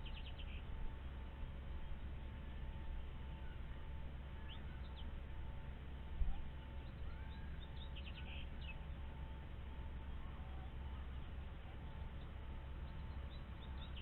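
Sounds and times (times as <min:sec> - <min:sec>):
faint steady hum: 0:00.0 - 0:14.0
steady low rumble: 0:00.0 - 0:14.0.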